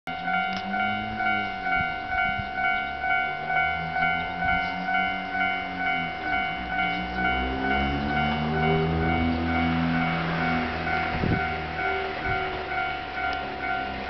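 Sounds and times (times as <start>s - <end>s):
level crossing bell ringing: 0.1s - 14.0s
low drone: 0.1s - 14.0s.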